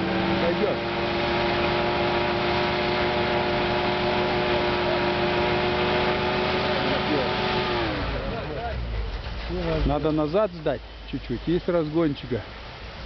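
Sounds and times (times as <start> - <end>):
truck engine straining: 0.0 - 13.0.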